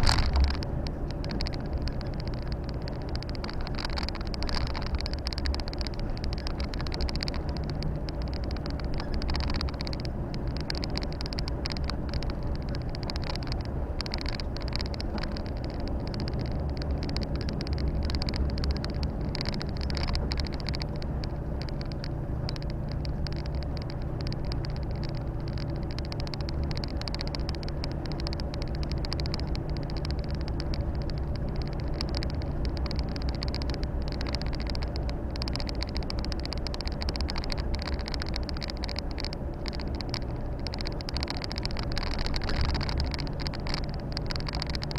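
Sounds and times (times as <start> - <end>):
diesel truck engine running: 0.0 - 44.9
tyre and road noise: 0.0 - 44.9.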